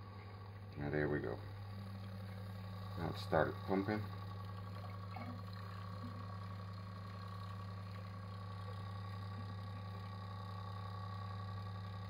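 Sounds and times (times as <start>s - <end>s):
water pump humming: 0.0s - 12.0s.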